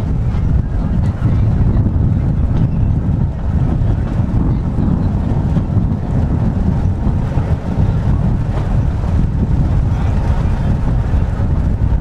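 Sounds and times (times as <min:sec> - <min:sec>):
tram rumbling along track: 0:00.0 - 0:12.0
wind buffeting microphone: 0:00.0 - 0:12.0.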